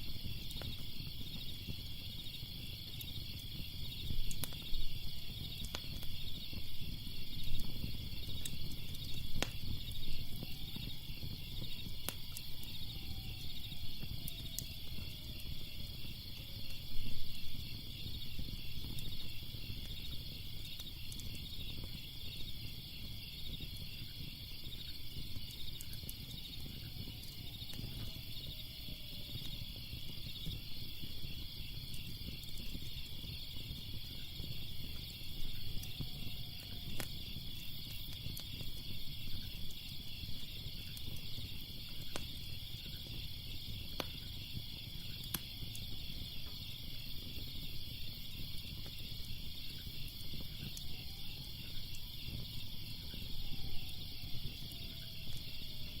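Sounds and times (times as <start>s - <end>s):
crickets chirping: 0.0s - 56.0s
wood fire crackling: 0.0s - 56.0s.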